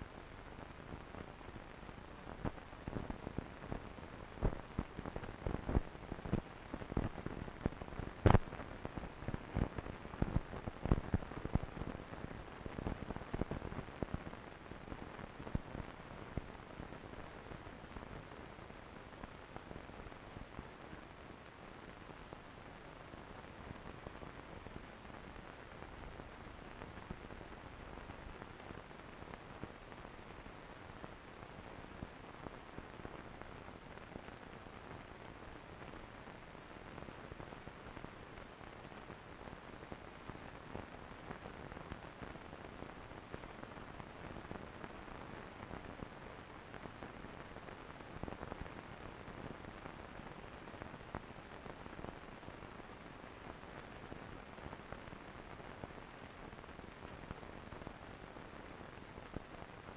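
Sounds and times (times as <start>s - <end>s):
small crackles and clicks: 0.0s - 59.9s
steady faint hiss: 0.0s - 59.9s.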